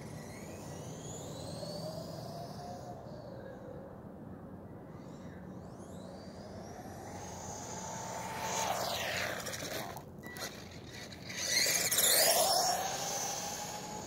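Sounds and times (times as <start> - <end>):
rc truck motor whining: 0.0 - 3.8, 5.0 - 14.0.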